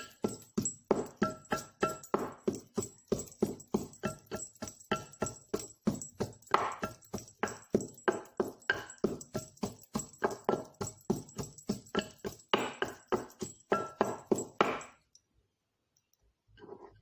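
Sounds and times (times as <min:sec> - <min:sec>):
wooden pestle pounding in mortar: 0:00.0 - 0:14.9.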